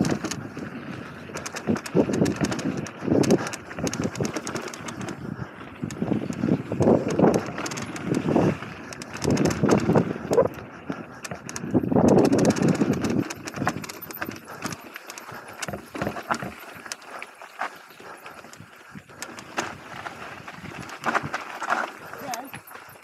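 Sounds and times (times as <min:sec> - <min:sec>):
bike rattling over bumps: 0:00.0 - 0:23.0.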